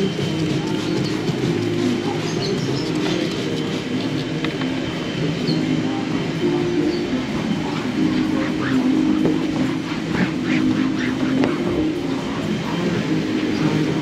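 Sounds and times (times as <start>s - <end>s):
music with held low notes: 0.0s - 14.0s.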